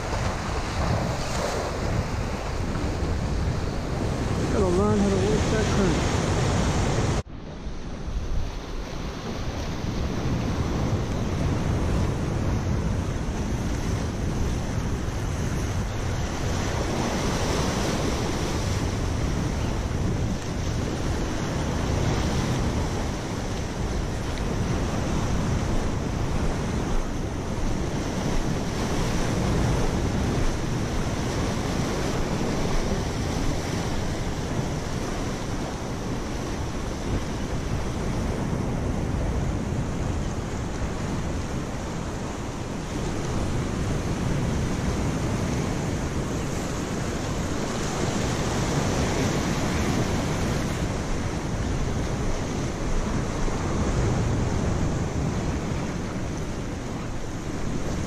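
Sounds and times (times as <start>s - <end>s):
surf washing over rocks: 0.0s - 58.0s
wind buffeting microphone: 0.0s - 58.0s.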